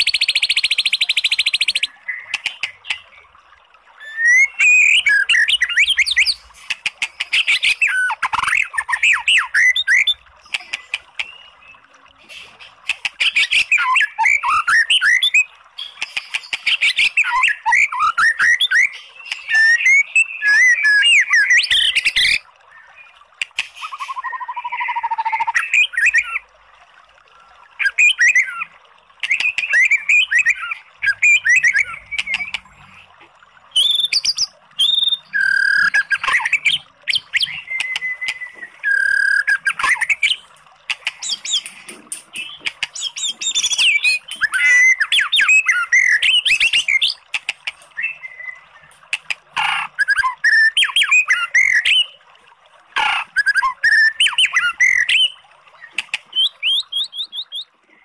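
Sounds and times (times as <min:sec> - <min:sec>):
songbird singing whistles and trills: 0:00.0 - 0:03.2, 0:04.0 - 0:06.4, 0:07.3 - 0:10.3, 0:13.2 - 0:23.2, 0:23.8 - 0:26.4, 0:27.8 - 0:32.6, 0:33.7 - 0:40.5, 0:41.2 - 0:47.2, 0:48.0 - 0:48.9, 0:49.6 - 0:52.2, 0:53.0 - 0:57.7.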